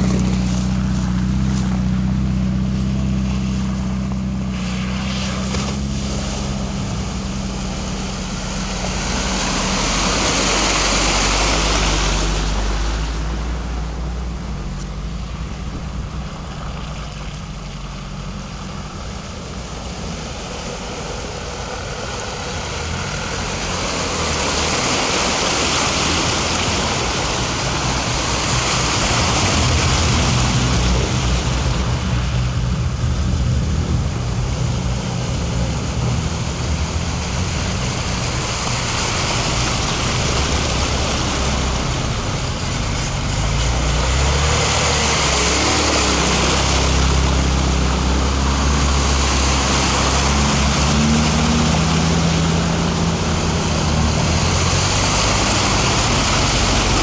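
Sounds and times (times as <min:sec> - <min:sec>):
off-road vehicle engine running: 0:00.0 - 0:57.0
water splashing: 0:00.0 - 0:57.0.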